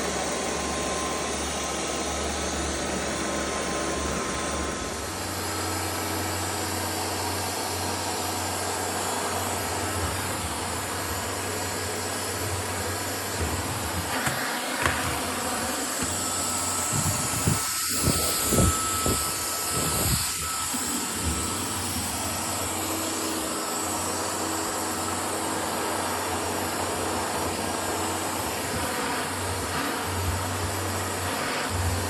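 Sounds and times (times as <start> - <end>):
vacuum cleaner whining: 0.0 - 32.0.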